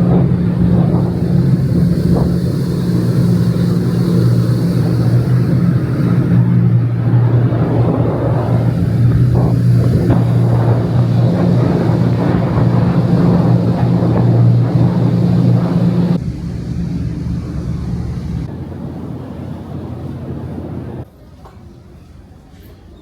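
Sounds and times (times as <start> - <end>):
wind and water rushing: 0.0 - 21.0
ferry engines droning: 0.0 - 23.0.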